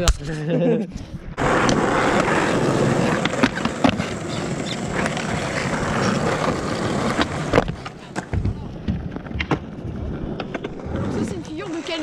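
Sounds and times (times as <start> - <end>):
skateboard wheels rolling on asphalt: 1.4 - 12.0.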